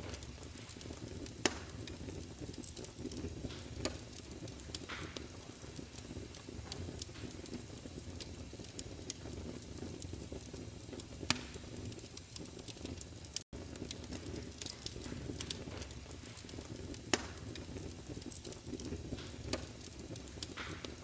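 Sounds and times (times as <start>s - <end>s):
sharp pops of fire: 0.0s - 21.0s
wood fire crackling: 0.0s - 21.0s.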